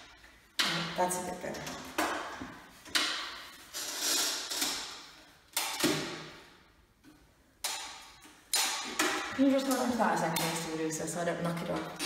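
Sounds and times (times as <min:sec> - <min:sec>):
knocks and scrapes of tools: 0:00.0 - 0:11.0.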